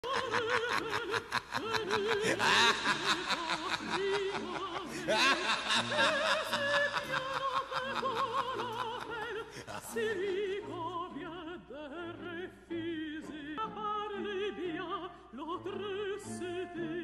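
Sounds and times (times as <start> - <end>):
operatic singing: 0.0 - 17.0.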